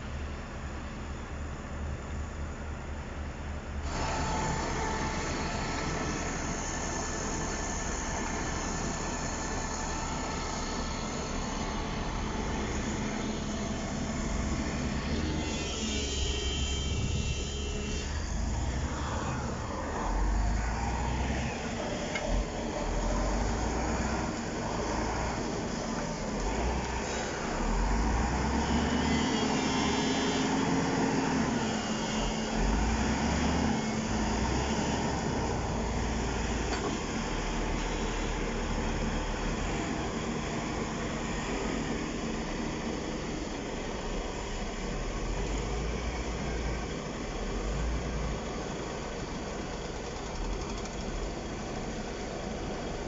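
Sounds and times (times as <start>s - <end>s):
diesel engines running under load: 0.0s - 53.0s.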